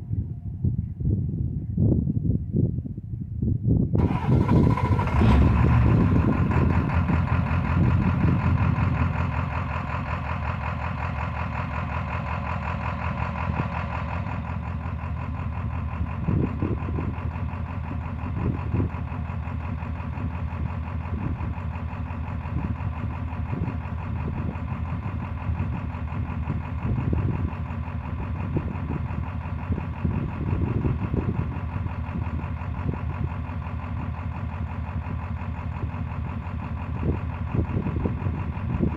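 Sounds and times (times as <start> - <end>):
diesel engine idling: 4.0 - 38.9.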